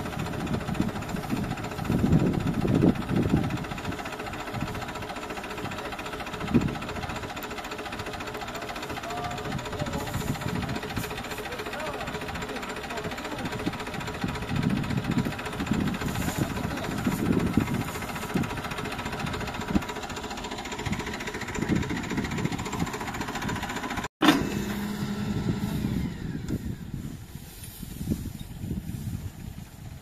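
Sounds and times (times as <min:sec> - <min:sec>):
excavator diesel engine idling: 0:00.0 - 0:30.0.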